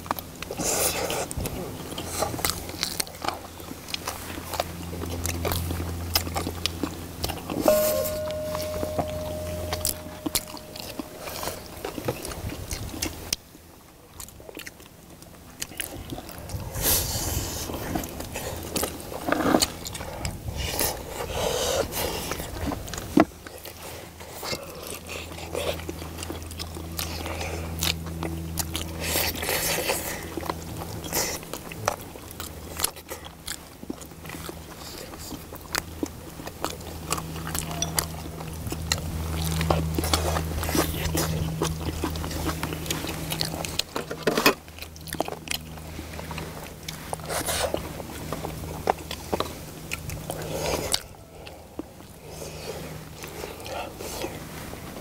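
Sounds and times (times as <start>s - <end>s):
low steady hum: 0.0s - 55.0s
people chewing: 0.0s - 55.0s.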